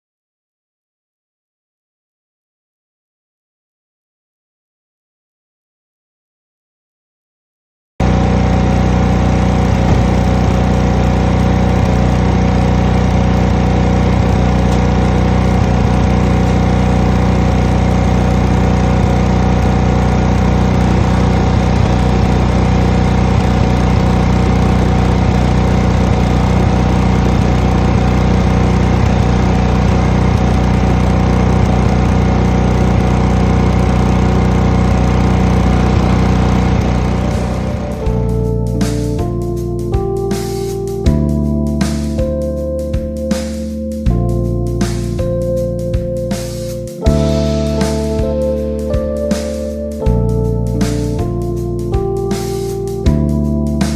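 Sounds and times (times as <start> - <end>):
pressure washer running: 8.0 - 42.3, 44.0 - 53.9.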